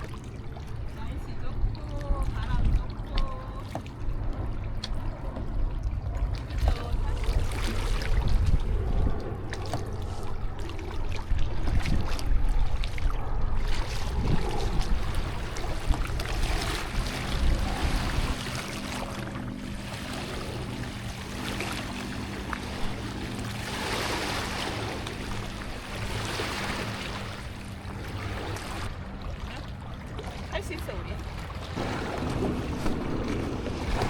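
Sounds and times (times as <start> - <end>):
water splashing around kayak: 0.0 - 34.0
wind on microphone: 0.0 - 34.0.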